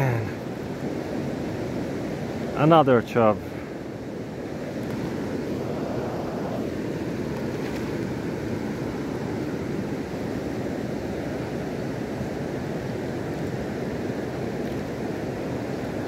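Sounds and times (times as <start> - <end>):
fast-flowing river water: 0.0 - 16.0.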